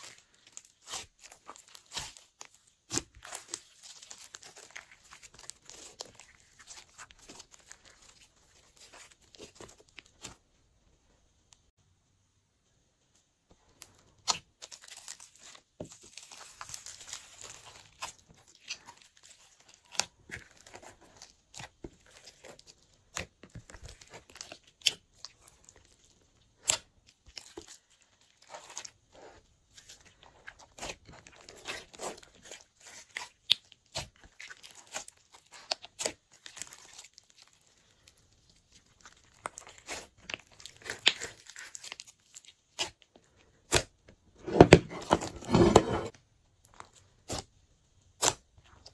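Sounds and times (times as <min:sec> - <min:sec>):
slime squishing with sticky pops: 0:00.0 - 0:10.4, 0:13.8 - 0:44.3, 0:46.6 - 0:48.9.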